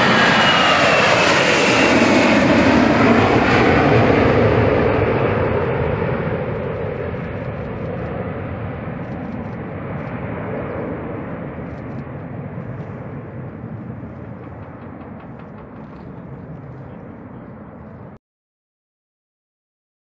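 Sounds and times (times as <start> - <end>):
jet engines roaring at takeoff: 0.0 - 18.2.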